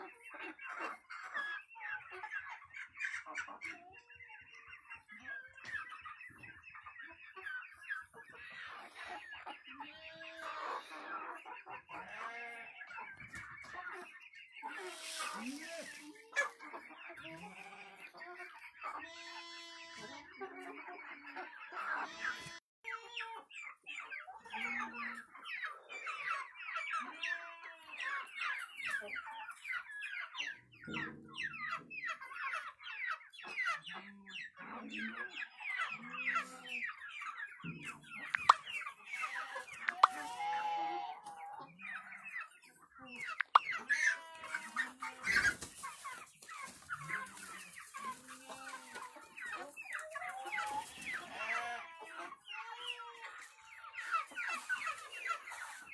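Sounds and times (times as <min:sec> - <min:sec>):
chickens clucking: 0:00.0 - 0:55.9
chicks peeping: 0:00.0 - 0:55.9.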